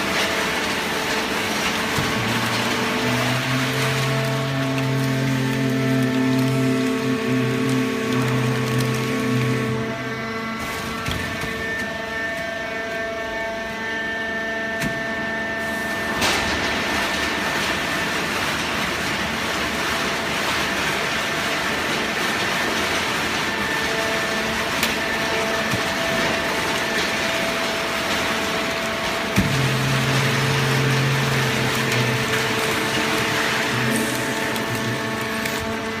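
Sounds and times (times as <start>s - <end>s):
baling press machine hum: 0.0s - 36.0s.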